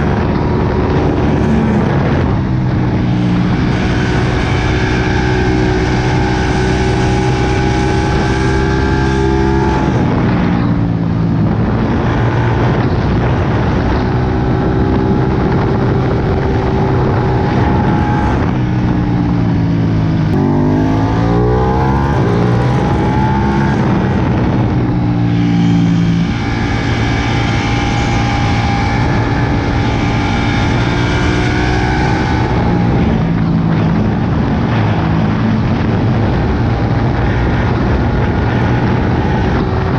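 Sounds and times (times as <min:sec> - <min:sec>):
rushing noise: 0:00.0 - 0:38.3
motorcycle engine running: 0:00.0 - 0:39.9.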